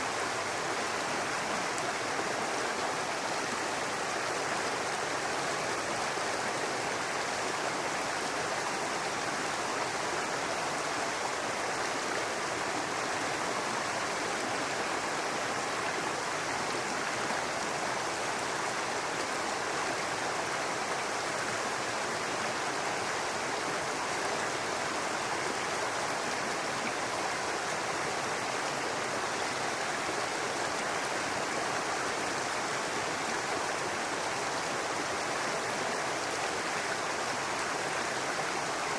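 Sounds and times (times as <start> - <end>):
brook water over rocks: 0.0 - 38.9.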